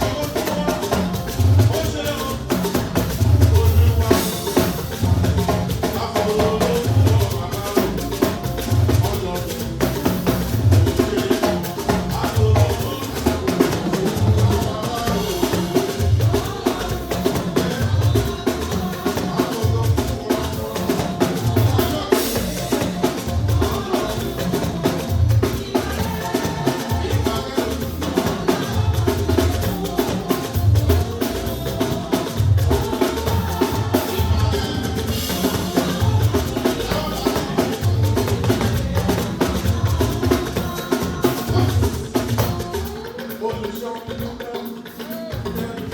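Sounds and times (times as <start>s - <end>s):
drum kit steady beat: 0.0s - 45.9s
live band music: 0.0s - 45.9s.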